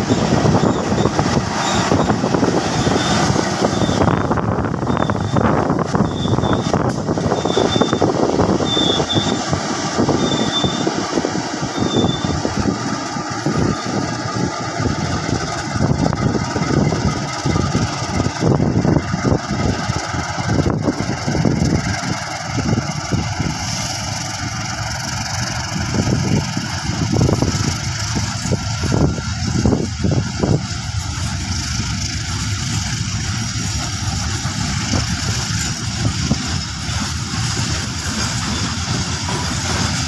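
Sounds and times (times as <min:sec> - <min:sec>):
diesel locomotive engine: 0:00.0 - 0:40.0
flatcars rumbling on rails: 0:00.0 - 0:40.0
train wheels knocking on track: 0:00.0 - 0:40.0.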